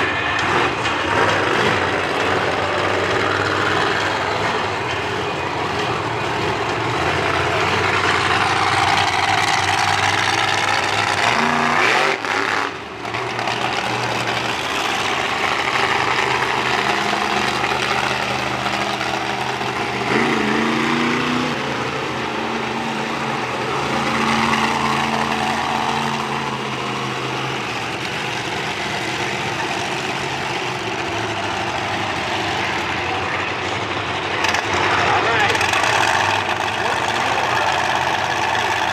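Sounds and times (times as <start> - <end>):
truck engine revving: 0.0 - 38.9
truck engines running at low revs: 0.0 - 38.9.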